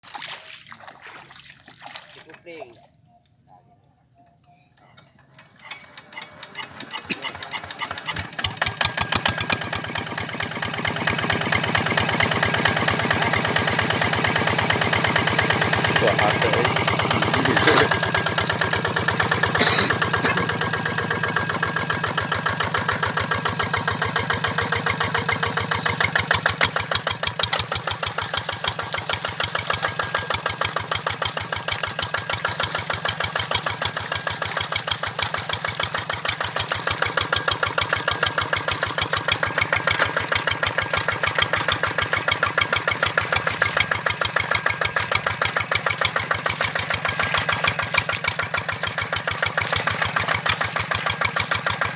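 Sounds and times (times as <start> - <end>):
diesel engine running: 5.0 - 51.9.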